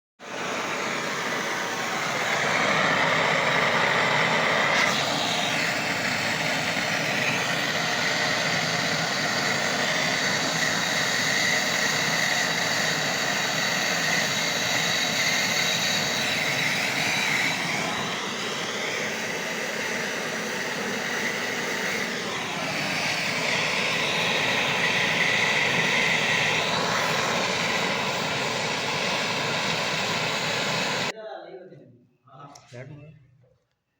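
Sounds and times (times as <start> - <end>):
welding torch flame hissing: 0.2 - 31.1.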